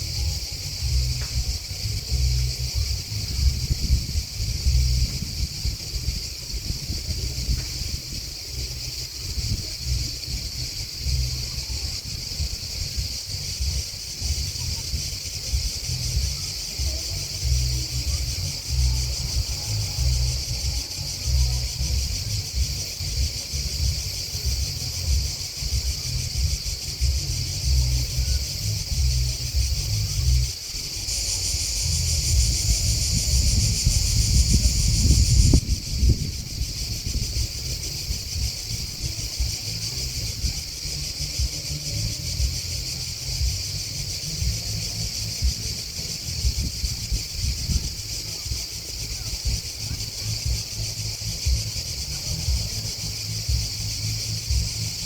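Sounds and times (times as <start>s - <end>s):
grasshoppers and crickets chorus: 0.0s - 55.0s
low uneven rumble: 0.0s - 55.0s.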